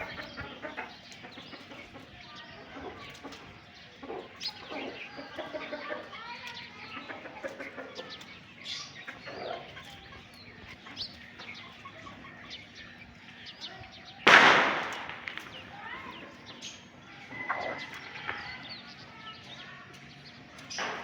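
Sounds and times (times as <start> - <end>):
chickens calling softly: 0.0 - 21.0.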